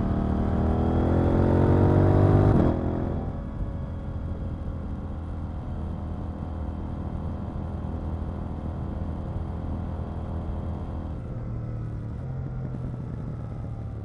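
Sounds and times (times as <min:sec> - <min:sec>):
motorcycle engine running at low revs: 0:00.0 - 0:14.0.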